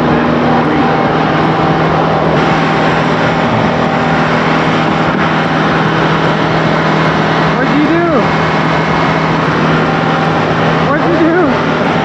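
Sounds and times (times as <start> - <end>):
pump engine running under load: 0.0 - 12.0.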